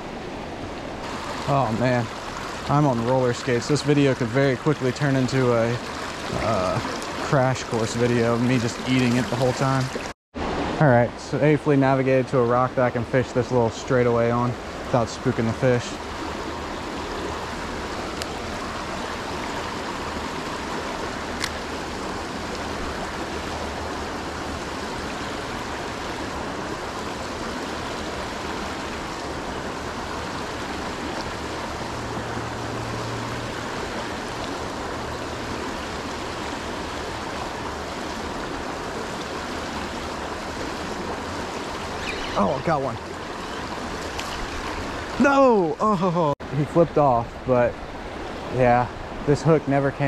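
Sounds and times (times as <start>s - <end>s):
water rushing over rocks: 0.0s - 50.0s.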